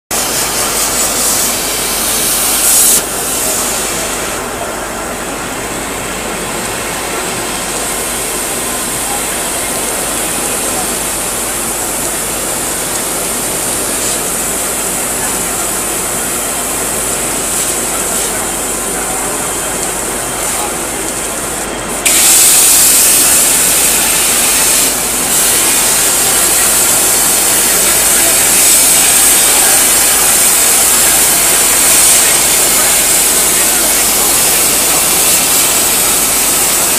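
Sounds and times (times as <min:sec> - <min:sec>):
workshop noise: 0:00.1 - 0:36.9
cutting torch gas hiss: 0:00.2 - 0:04.6, 0:06.5 - 0:36.9.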